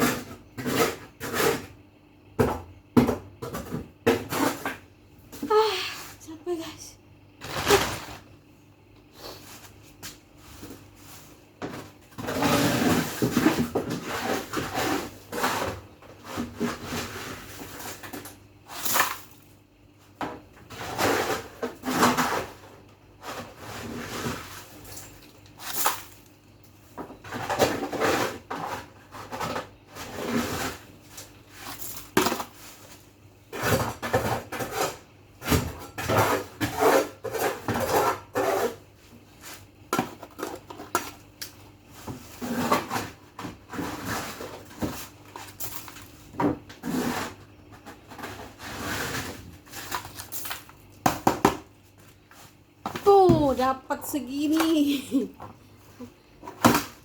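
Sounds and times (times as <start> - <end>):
rustling and scraping: 9.1 - 19.5, 20.6 - 51.0, 51.8 - 57.0.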